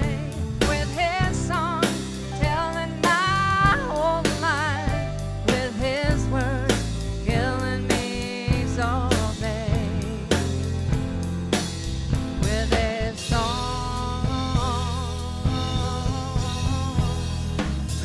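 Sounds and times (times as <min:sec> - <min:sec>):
lead melody with heavy vibrato: 0:00.0 - 0:18.0
live band music: 0:00.0 - 0:18.0.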